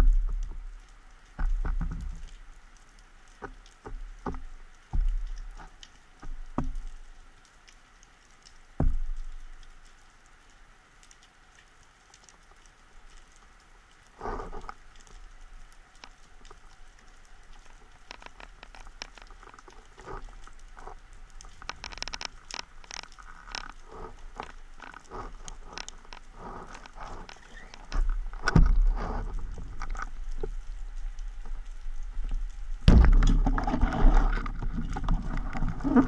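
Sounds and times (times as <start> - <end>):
low rumble of water: 0.0 - 36.0
underwater clicks and crackles: 0.0 - 36.0.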